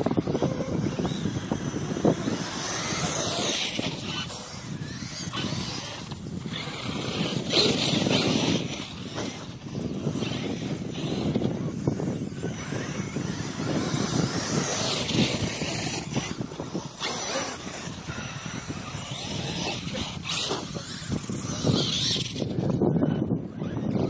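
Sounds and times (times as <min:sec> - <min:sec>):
rc truck motors whining: 0:00.0 - 0:24.0
tyres on loose sand: 0:01.4 - 0:22.6.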